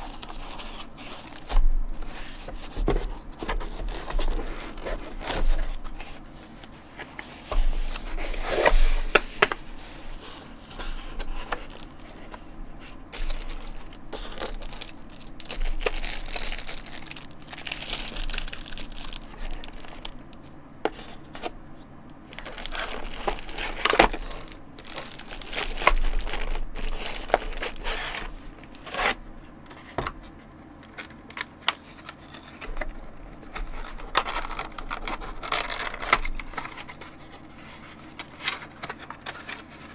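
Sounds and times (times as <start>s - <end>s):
plastic wrapping crinkling: 0.0s - 21.5s, 22.2s - 30.0s, 30.9s - 39.9s
cardboard packaging rustling: 0.0s - 21.6s, 22.2s - 39.9s.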